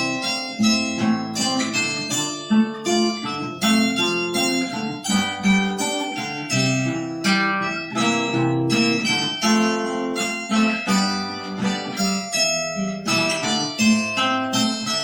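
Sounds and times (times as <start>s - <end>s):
acoustic guitar: 0.0s - 15.0s
harp zither plucked notes: 0.0s - 15.0s.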